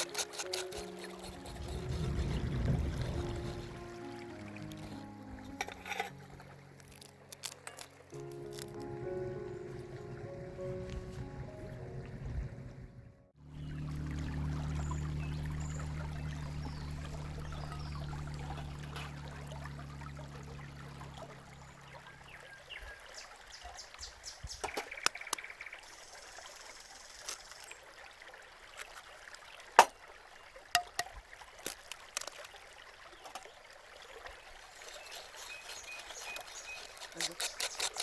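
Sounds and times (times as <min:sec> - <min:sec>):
water trickling: 0:00.0 - 0:12.8, 0:13.4 - 0:38.0.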